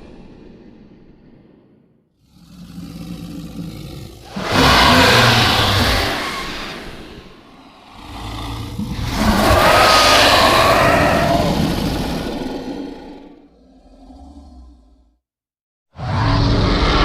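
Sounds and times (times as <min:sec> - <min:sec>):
dragon growl: 0:00.0 - 0:15.2, 0:16.0 - 0:17.0
dragon roar: 0:00.0 - 0:15.2, 0:16.0 - 0:17.0.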